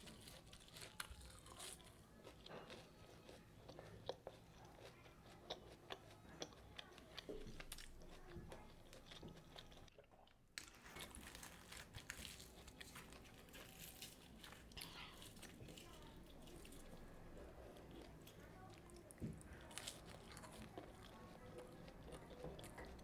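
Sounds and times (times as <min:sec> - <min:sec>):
chewing and biting food: 0:00.0 - 0:23.0.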